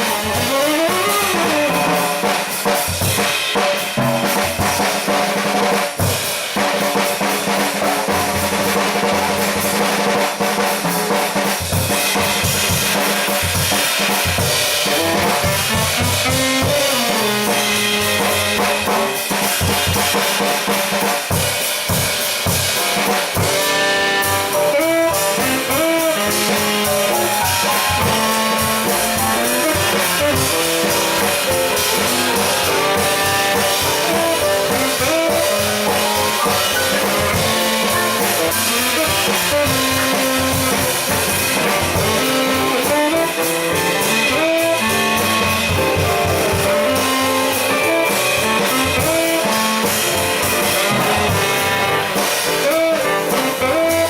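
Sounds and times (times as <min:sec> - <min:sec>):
drum kit snare and rimshots: 0:00.0 - 0:54.0
live jazz band playing: 0:00.0 - 0:54.0.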